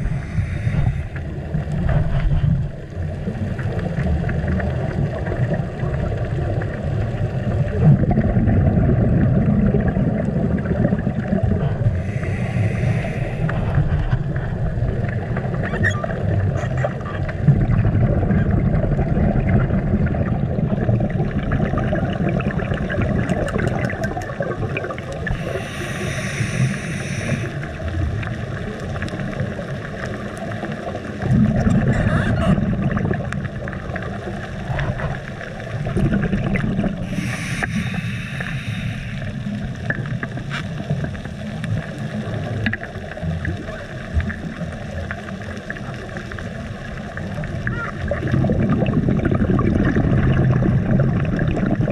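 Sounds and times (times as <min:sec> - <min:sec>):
regulator exhale bubbles: 0:00.0 - 0:06.8, 0:07.5 - 0:29.6, 0:30.7 - 0:42.8, 0:48.0 - 0:51.9
low underwater rumble: 0:00.0 - 0:51.9.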